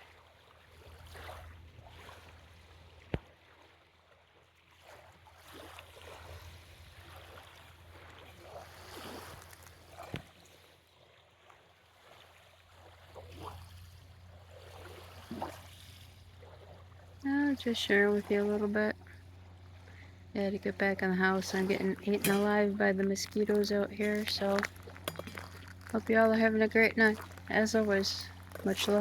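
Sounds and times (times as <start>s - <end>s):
small waves lapping at shore: 0.0s - 29.0s.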